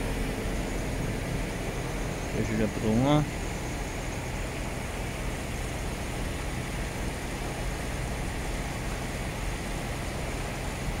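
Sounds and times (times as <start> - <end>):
machinery hum and hiss: 0.0 - 11.0.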